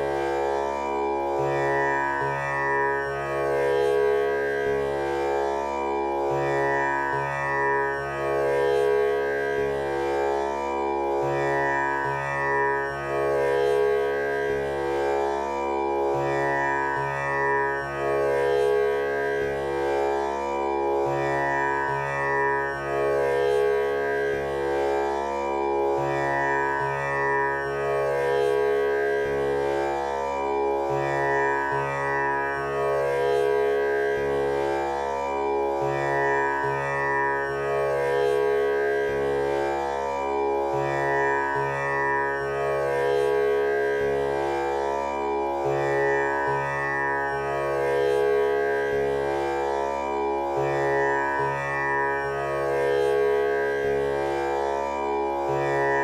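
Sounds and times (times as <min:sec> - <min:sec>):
tanpura drone: 0:00.0 - 0:56.0.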